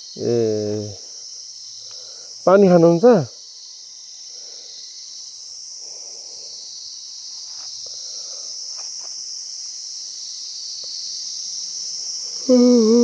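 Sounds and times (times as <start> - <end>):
chorus of insects: 0.0 - 13.0.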